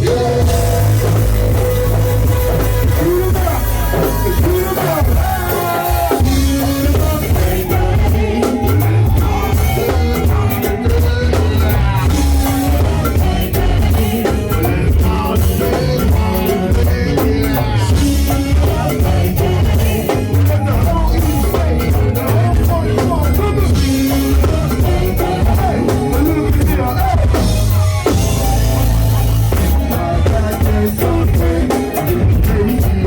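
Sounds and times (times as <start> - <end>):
funk band groove: 0.0 - 33.0
heavy bass line: 0.0 - 33.0.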